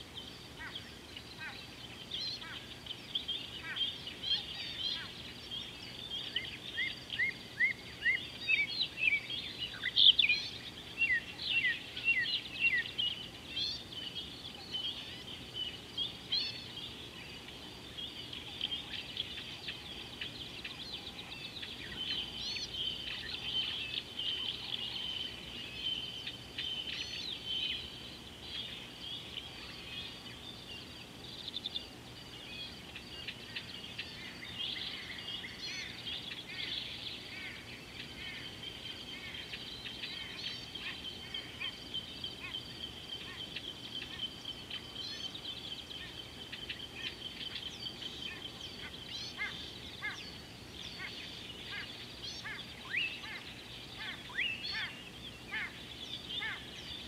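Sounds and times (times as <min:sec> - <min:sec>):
wild birds chirping and calling: 0:00.0 - 0:57.0.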